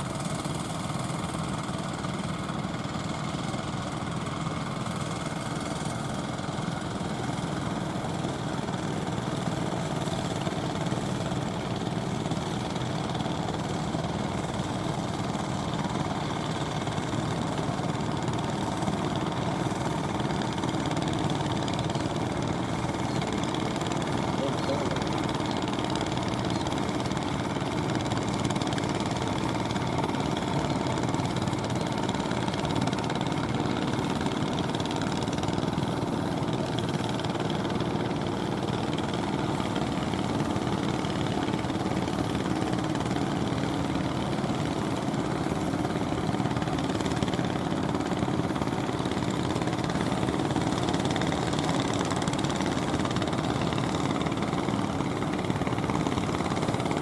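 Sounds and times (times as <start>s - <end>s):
motor boat engine running: 0.0s - 57.0s.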